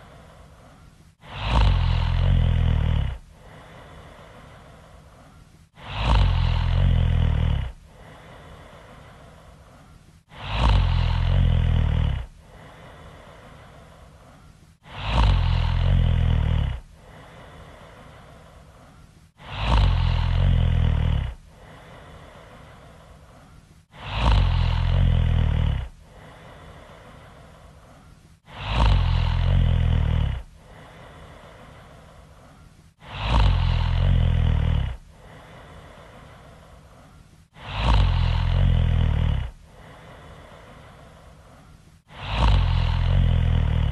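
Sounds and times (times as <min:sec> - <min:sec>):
loud snoring: 0:01.2 - 0:18.6, 0:19.4 - 0:32.1, 0:33.0 - 0:36.6, 0:37.5 - 0:41.3, 0:42.0 - 0:43.9.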